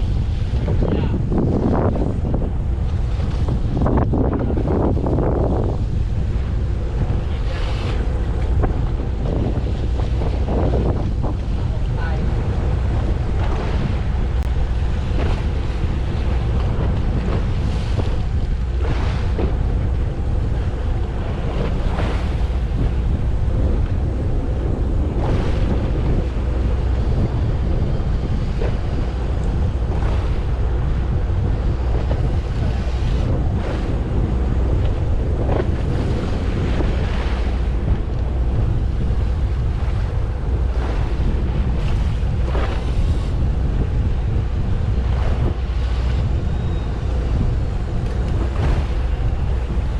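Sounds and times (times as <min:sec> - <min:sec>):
low rumble: 0:00.0 - 0:49.9
water swishing against hull: 0:00.0 - 0:49.9
wind buffeting microphone: 0:00.0 - 0:49.9.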